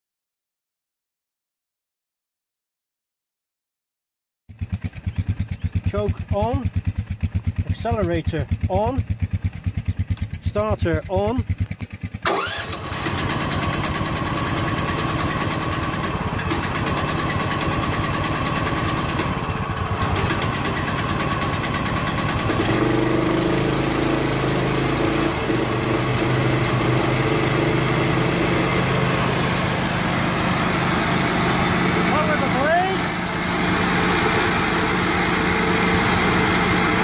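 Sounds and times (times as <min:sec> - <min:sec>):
mower engine running: 0:04.5 - 0:37.0.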